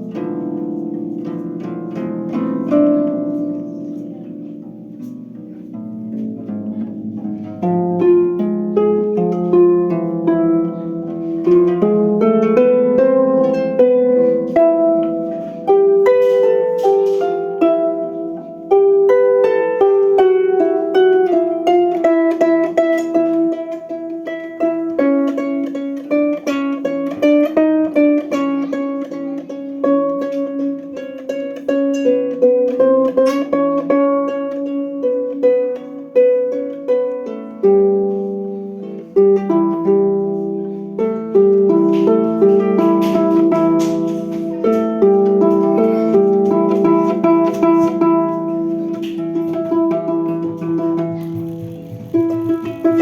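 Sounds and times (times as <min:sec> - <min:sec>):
plucked string instrument music: 0:00.0 - 0:53.0.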